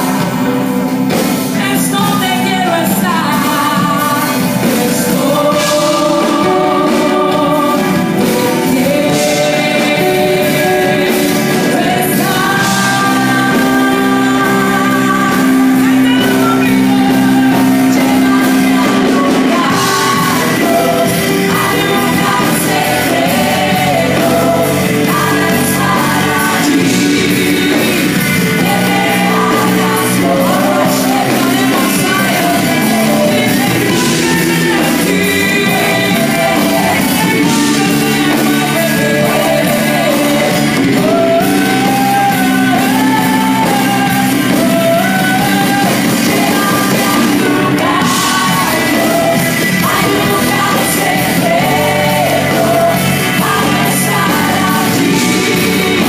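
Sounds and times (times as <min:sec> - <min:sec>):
singers leading a song: 0:00.0 - 0:56.0
worship band playing: 0:00.0 - 0:56.0.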